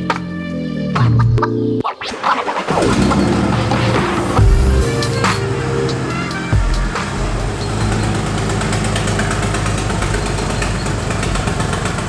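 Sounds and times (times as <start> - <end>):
car engine idling: 2.1 - 12.0.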